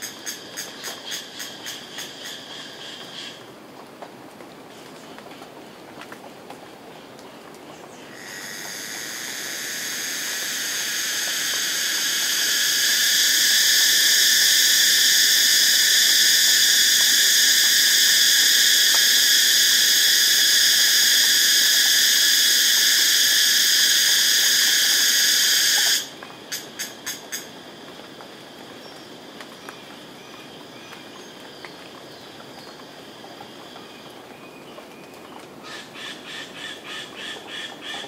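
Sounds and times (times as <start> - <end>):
cicada buzzing: 0.0 - 3.4, 7.9 - 34.1, 35.6 - 38.0.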